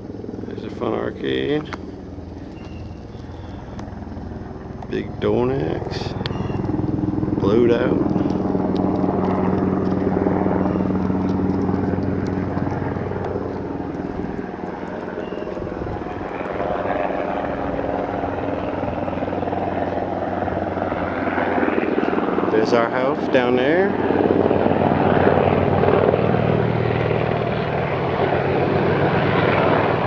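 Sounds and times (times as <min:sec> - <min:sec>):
helicopter rotor chopping: 0:00.0 - 0:30.0.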